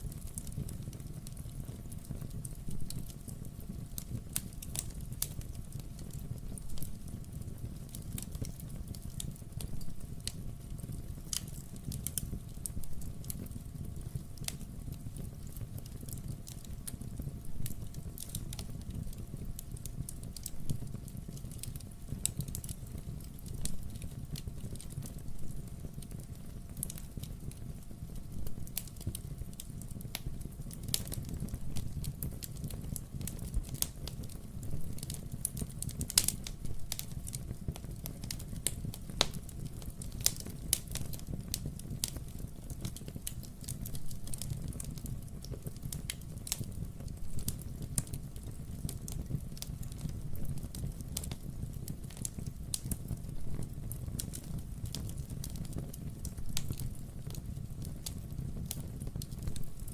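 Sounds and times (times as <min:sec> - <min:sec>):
fire crackling and popping: 0:00.0 - 0:59.9
low rumble of flame: 0:00.0 - 0:59.9.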